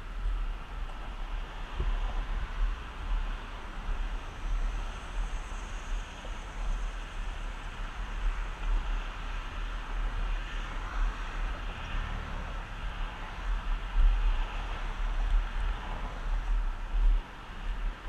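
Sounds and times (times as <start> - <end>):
road traffic: 0.0 - 18.0
wheels rolling on asphalt: 0.0 - 18.0
wind rumble on microphone: 0.0 - 18.0.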